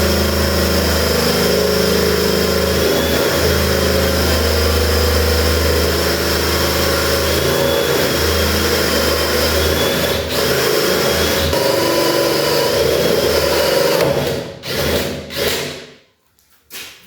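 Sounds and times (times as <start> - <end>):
power drill boring into wood: 0.0 - 15.8.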